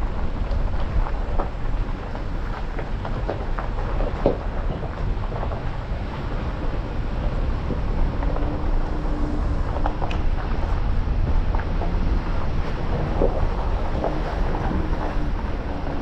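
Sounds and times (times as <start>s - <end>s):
engine and road rumble: 0.0s - 16.0s
gravel knocks: 0.0s - 16.0s
wind buffeting microphone: 0.0s - 16.0s.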